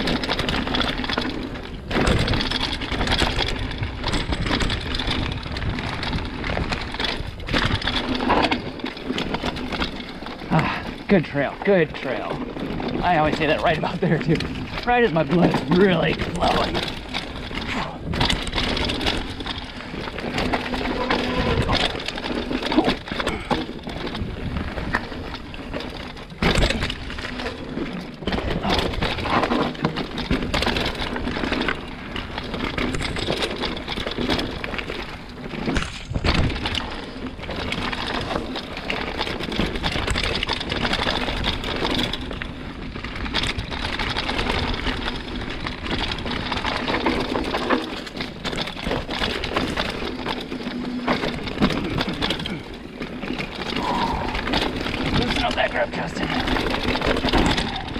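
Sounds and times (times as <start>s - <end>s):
bike chain and frame rattling: 0.0s - 57.9s
bike tyres on dirt: 0.0s - 57.9s.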